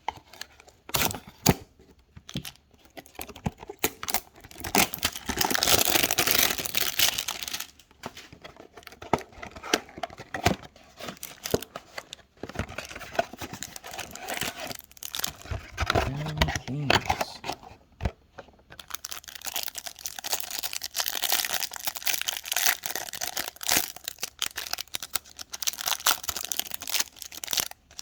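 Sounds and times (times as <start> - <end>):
packaging tearing and crinkling: 2.4 - 7.8, 8.8 - 12.1, 12.8 - 17.2, 18.8 - 28.0.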